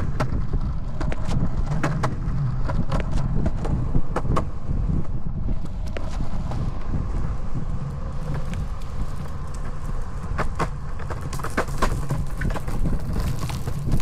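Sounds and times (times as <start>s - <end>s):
skateboard wheels rumbling on concrete: 0.0s - 14.0s
wheels clicking over joints: 0.0s - 14.0s.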